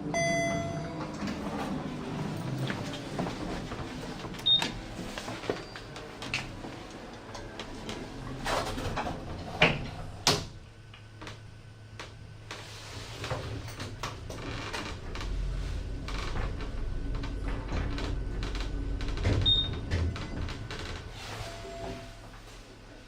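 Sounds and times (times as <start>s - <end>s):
lift doors sliding closed: 0.0s - 10.6s, 12.5s - 22.8s
lift car humming: 0.0s - 23.0s.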